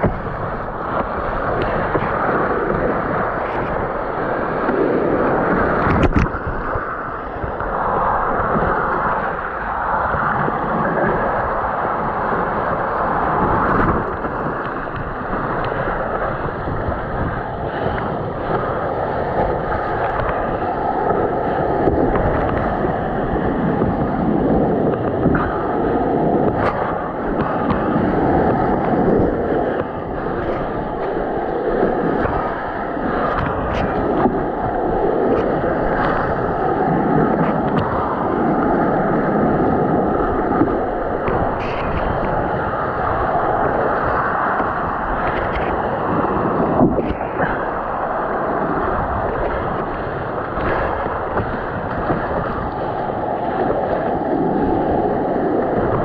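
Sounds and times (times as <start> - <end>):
rapids rushing and splashing: 0.0 - 56.0
wind buffeting microphone: 0.0 - 56.0.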